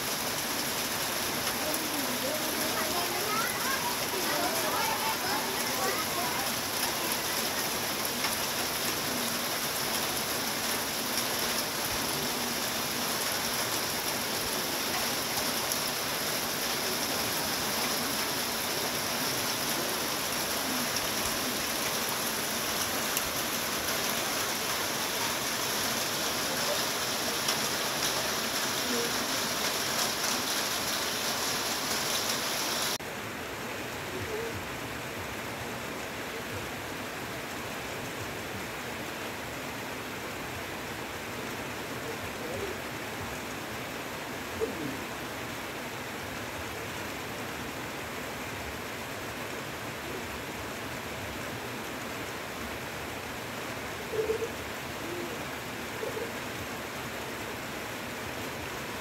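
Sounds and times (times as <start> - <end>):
heavy rain on trees: 0.0 - 59.0.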